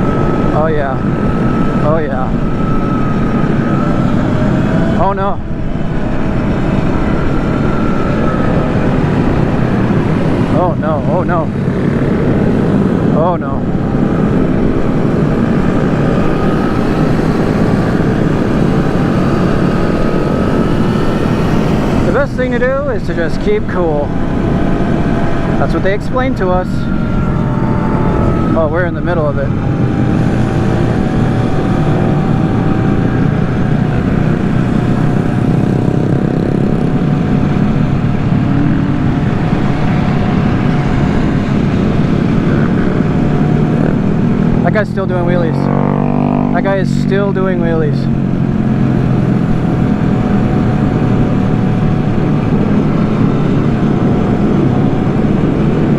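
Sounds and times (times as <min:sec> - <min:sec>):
faint rising whine: 0:00.0 - 0:55.9
rumble of motorbikes: 0:00.0 - 0:55.9
wind noise: 0:00.0 - 0:55.9.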